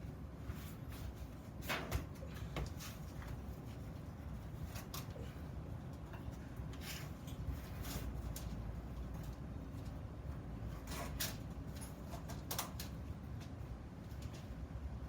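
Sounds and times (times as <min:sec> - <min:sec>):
low workshop hum: 0:00.0 - 0:15.0.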